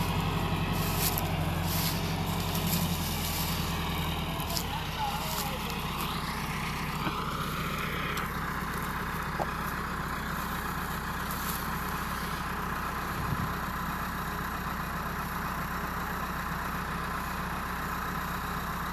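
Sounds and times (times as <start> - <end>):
tractor diesel engine idling: 0.0 - 18.9.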